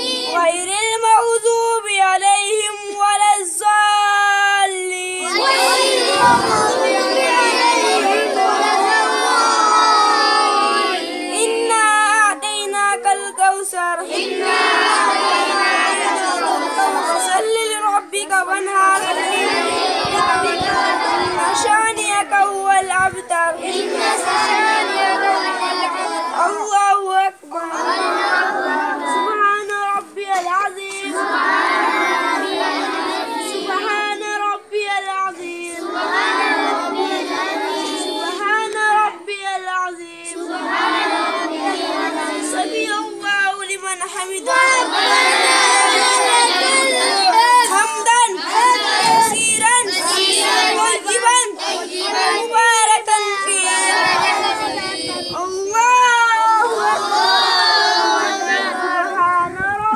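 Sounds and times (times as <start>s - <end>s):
boy reciting melodic chant: 0.0s - 59.9s
boys chanting together: 0.0s - 59.9s.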